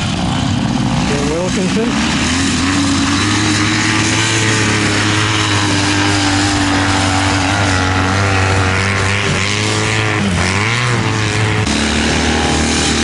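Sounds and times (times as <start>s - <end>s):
motorcycle engine pulling uphill: 0.0s - 13.0s.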